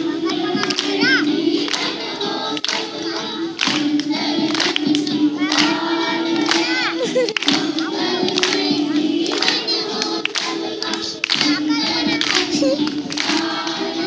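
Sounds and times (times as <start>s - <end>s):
children singing in unison: 0.0s - 14.0s
hand claps: 0.2s - 14.0s.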